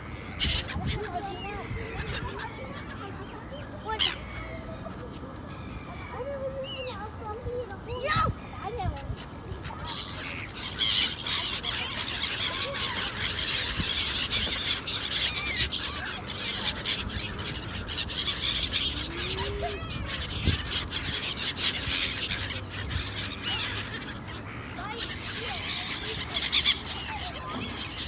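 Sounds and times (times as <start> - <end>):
gulls squawking: 0.0 - 28.0.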